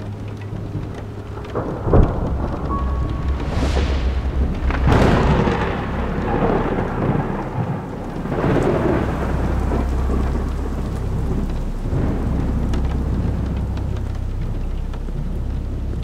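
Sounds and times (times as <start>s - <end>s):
steady rain: 0.0s - 16.0s
thunder crack and rumble: 0.0s - 16.0s.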